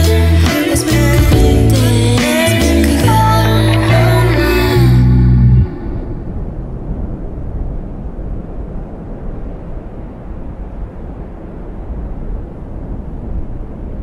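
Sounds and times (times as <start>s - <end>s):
steady low rumbling: 0.0s - 14.0s.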